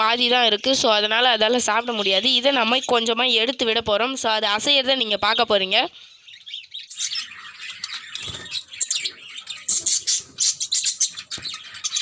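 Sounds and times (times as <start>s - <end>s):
small birds chirping and squawking: 0.0s - 12.0s.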